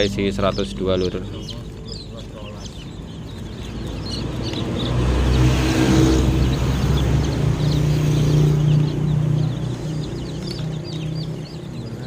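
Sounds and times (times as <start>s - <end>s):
chicks peeping: 0.0s - 12.0s
vehicle engine running: 0.0s - 12.0s.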